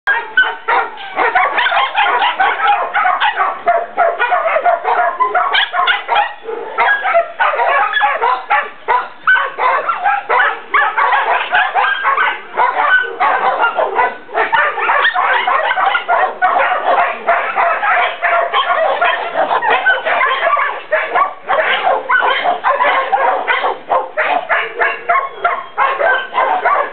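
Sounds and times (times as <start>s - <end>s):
dogs barking and yipping: 0.1s - 26.9s.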